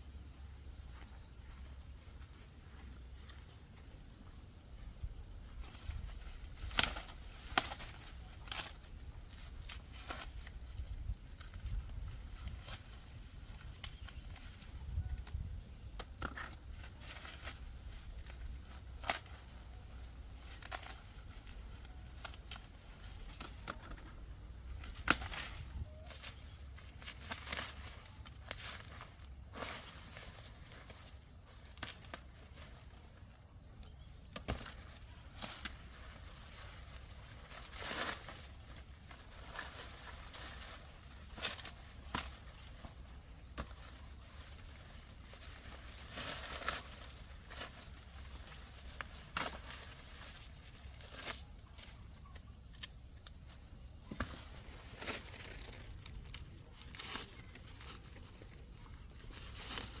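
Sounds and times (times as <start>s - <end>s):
crackles and rustles of plants: 0.0s - 60.0s.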